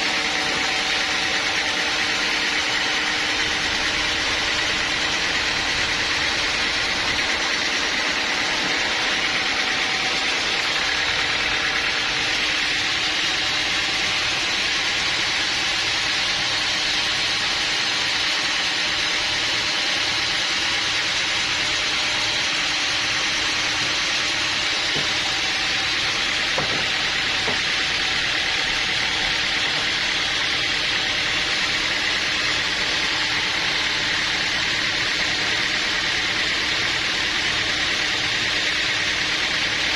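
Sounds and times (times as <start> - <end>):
motor hum: 0.0 - 39.9.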